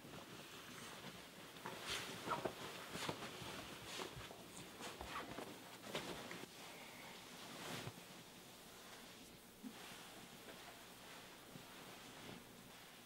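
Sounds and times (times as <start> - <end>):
bed sheets rustling: 0.0 - 13.0.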